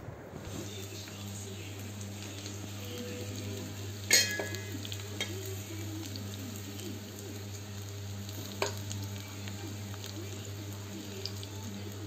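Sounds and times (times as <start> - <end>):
steady low hum: 0.0 - 12.0
food sizzling in oil: 0.4 - 12.0.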